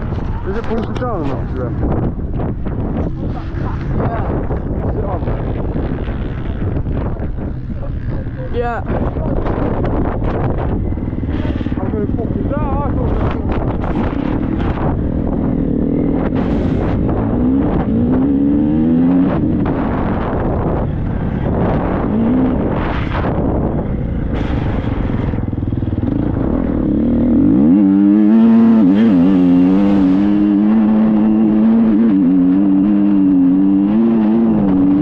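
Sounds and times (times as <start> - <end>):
low rumble: 0.0 - 35.0
motorcycle engine revving: 0.0 - 35.0.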